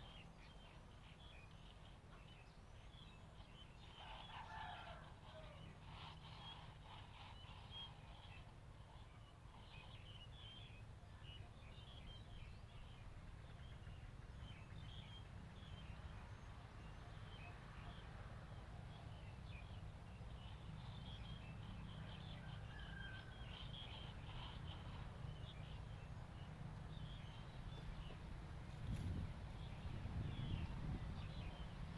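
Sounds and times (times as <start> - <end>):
low steady rumble: 0.0 - 31.9.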